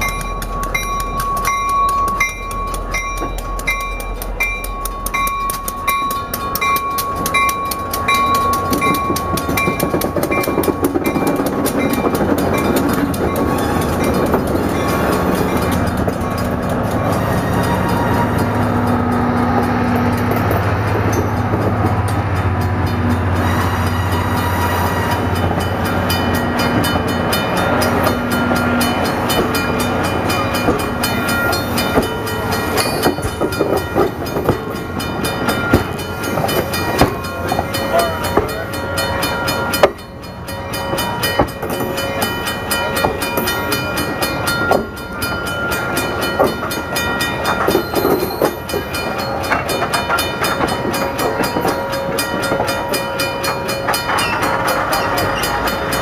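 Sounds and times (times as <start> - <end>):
locomotive engine hum: 0.0 - 56.0
train wheels clattering on rails: 0.0 - 56.0.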